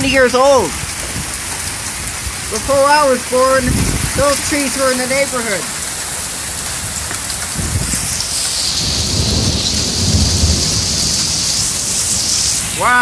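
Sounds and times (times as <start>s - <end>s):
heavy rain pouring: 0.0s - 13.0s
thunder rumbling: 0.0s - 13.0s.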